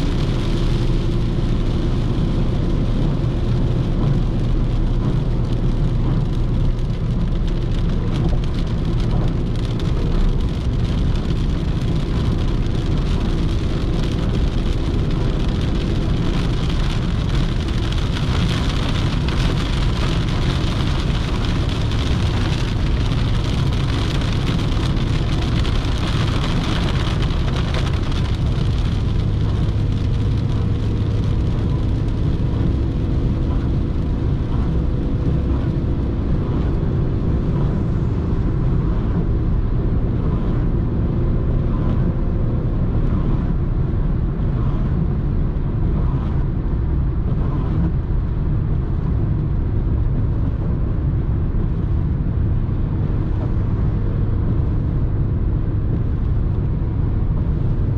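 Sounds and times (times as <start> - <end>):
tyre and wind noise: 0.0 - 57.9.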